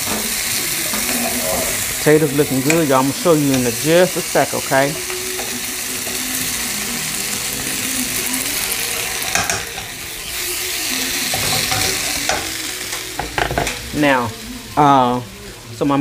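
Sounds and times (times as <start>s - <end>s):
potatoes sizzling in a pan: 0.0s - 16.0s.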